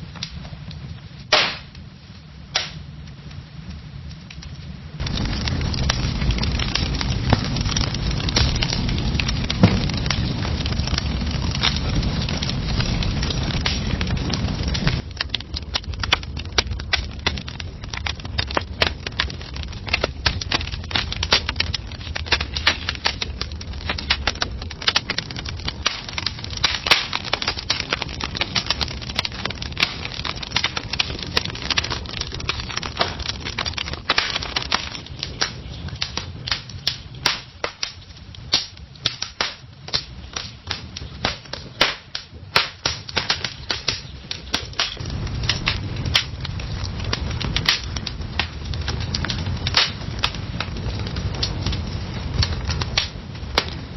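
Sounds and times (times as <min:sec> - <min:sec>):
fire crackling and popping: 0:00.0 - 0:53.9
low rumble of fire: 0:00.0 - 0:53.9.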